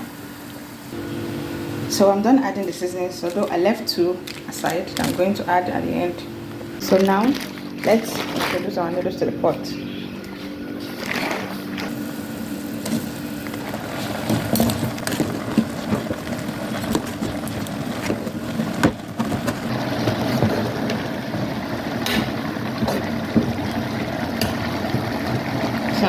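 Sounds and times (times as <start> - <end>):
pot of water boiling: 0.0 - 8.7, 10.6 - 26.0.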